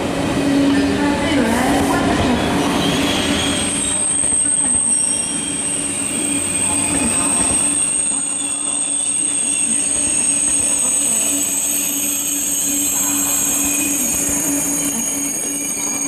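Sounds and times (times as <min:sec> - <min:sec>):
high-pitched squeal: 0:02.7 - 0:16.0.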